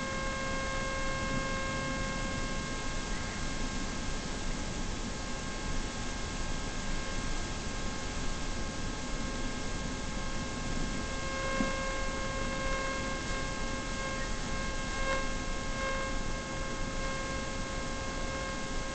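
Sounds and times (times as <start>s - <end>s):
high electrical whine: 0.0s - 18.9s.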